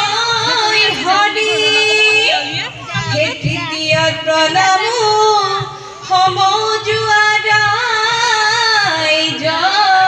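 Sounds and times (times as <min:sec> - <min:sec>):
women singing: 0:00.0 - 0:10.0.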